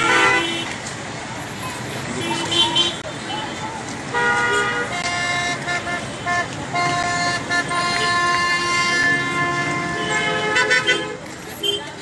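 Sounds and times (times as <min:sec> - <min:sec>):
vehicle horns honking: 0:00.0 - 0:00.8, 0:02.2 - 0:03.5, 0:04.1 - 0:11.9
street traffic: 0:00.0 - 0:12.0.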